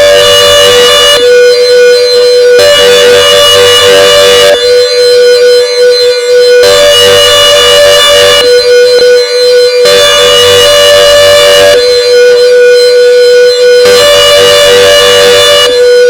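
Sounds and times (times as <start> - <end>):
steady siren tone: 0.0 - 16.0.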